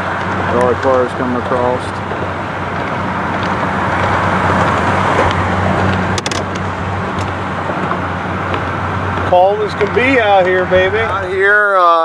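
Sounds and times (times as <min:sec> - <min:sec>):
boat motor humming: 0:00.0 - 0:12.0
wind and water rushing: 0:00.0 - 0:12.0.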